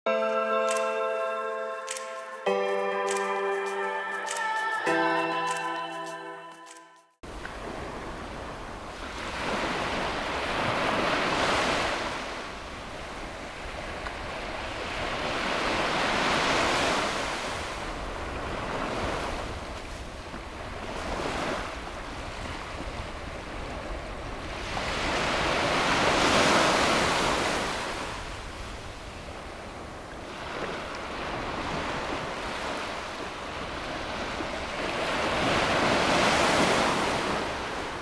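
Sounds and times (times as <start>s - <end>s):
small waves breaking on beach: 7.3s - 38.0s.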